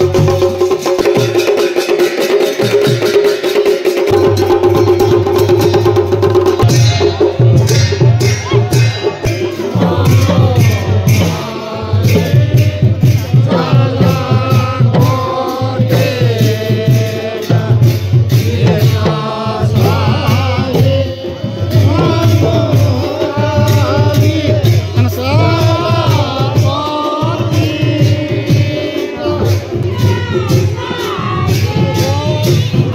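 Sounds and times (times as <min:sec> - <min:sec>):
drums beating: 0:00.0 - 0:32.9
men singing a chant: 0:04.1 - 0:32.9.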